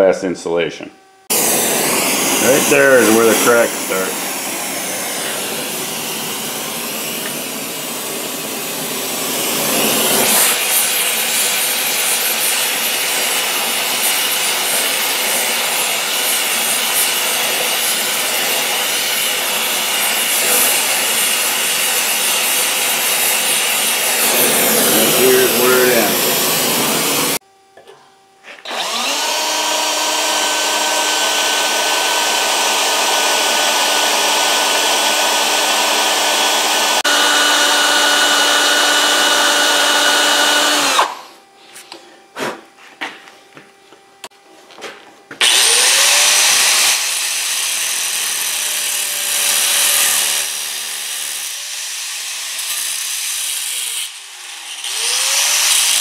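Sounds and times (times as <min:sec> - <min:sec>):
angle grinder grinding metal: 0:01.3 - 0:27.4, 0:28.6 - 0:41.2, 0:45.4 - 0:56.0
cordless drill boring metal: 0:01.3 - 0:27.4, 0:28.7 - 0:41.2, 0:45.4 - 0:56.0.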